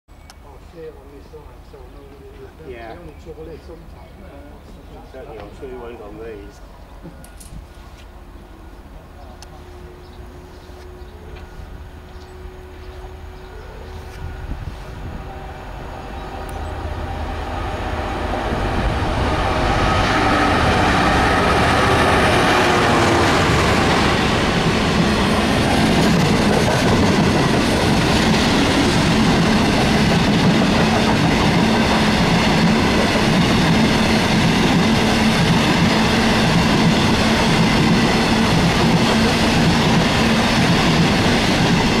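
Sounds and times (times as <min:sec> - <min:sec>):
diesel locomotive passing: 0:00.4 - 0:42.0.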